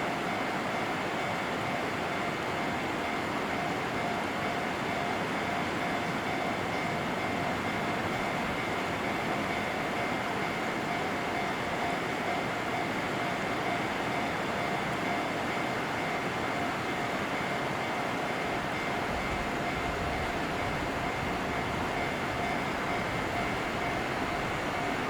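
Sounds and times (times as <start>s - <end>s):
electric train rumble and hiss: 0.0s - 25.0s
faint steady whining tones: 0.0s - 25.0s.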